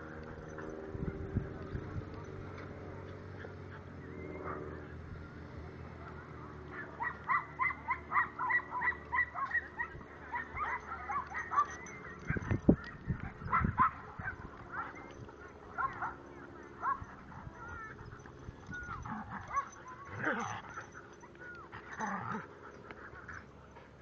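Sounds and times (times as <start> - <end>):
dogs barking in high yips: 0.0 - 2.4, 3.3 - 4.9, 6.6 - 24.0.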